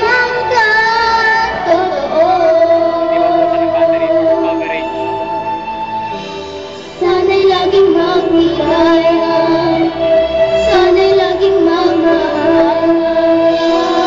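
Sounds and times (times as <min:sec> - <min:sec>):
girl singing into a microphone: 0:00.0 - 0:04.4, 0:07.0 - 0:14.0
accompanying music: 0:00.0 - 0:14.0.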